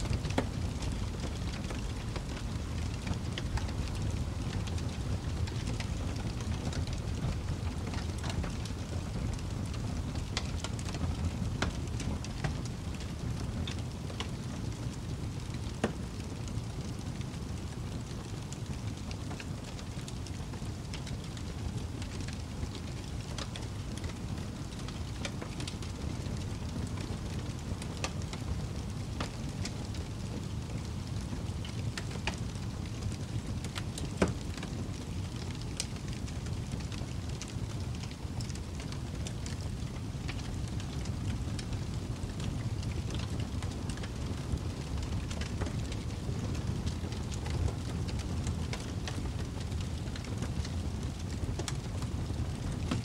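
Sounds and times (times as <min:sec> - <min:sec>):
constant low rumble: 0:00.0 - 0:53.0
rain-like noise: 0:00.0 - 0:53.0.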